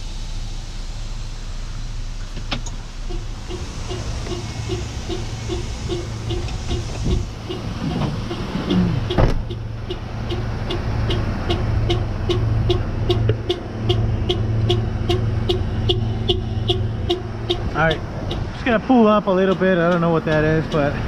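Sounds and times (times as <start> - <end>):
truck engine idling: 0.0 - 21.0
regular relay ticking: 3.0 - 21.0.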